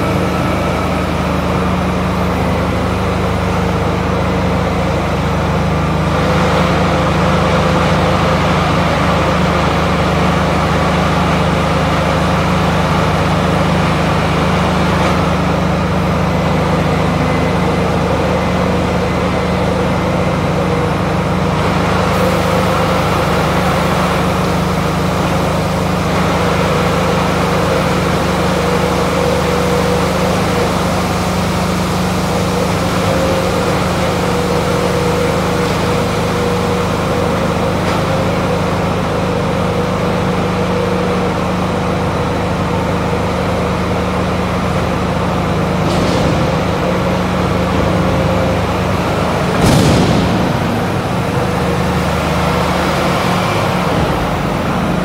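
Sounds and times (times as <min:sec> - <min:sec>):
tractor engine running steadily: 0:00.0 - 0:55.0.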